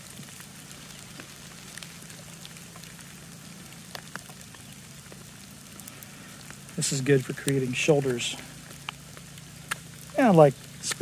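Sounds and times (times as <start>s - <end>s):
low hiss and hum: 0.0s - 11.0s.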